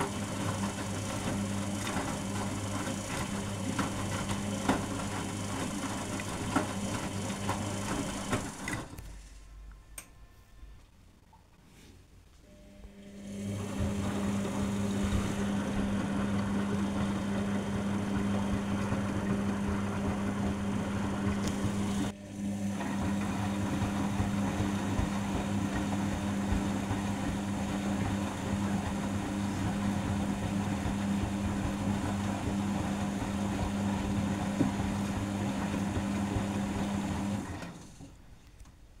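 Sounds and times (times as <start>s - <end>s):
washing machine running: 0.0s - 9.2s, 12.5s - 38.2s.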